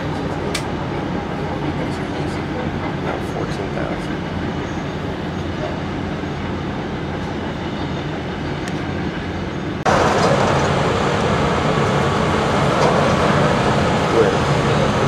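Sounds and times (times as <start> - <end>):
construction machinery din: 0.0 - 15.0
wheel loader diesel engine: 0.0 - 15.0.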